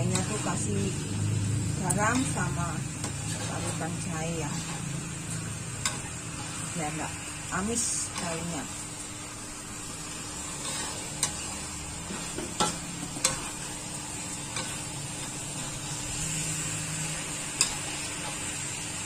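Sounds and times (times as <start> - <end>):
sauce sizzling in a wok: 0.0 - 19.0
spatula stirring in a wok: 0.0 - 19.0.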